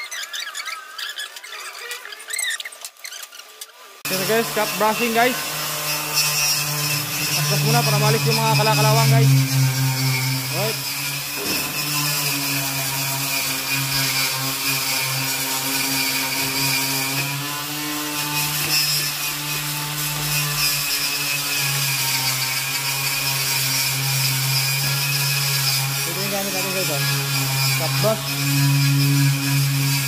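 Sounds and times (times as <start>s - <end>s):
wire brush scrubbing rusty steel: 0.1s - 30.0s.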